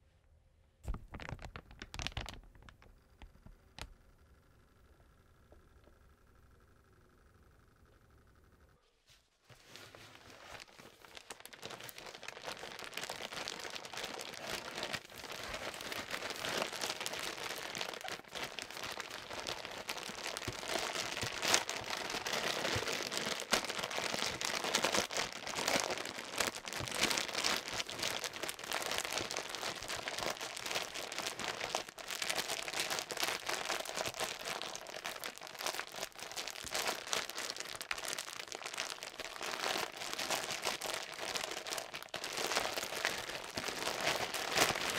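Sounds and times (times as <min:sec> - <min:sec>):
plastic bag crinkling: 0:00.8 - 0:03.9, 0:09.5 - 0:44.9.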